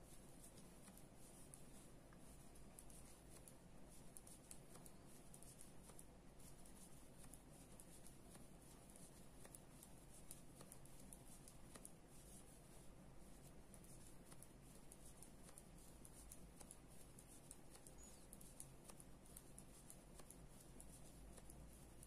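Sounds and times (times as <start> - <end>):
knitting needles clicking: 0.0 - 22.0.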